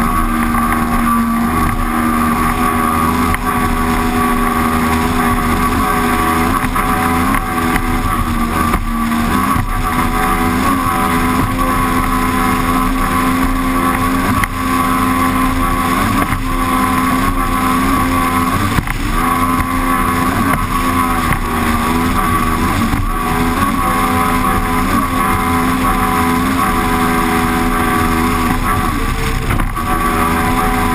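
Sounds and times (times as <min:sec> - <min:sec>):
outboard engine running flat out: 0:00.0 - 0:30.9
rush of spray and wind: 0:00.0 - 0:30.9.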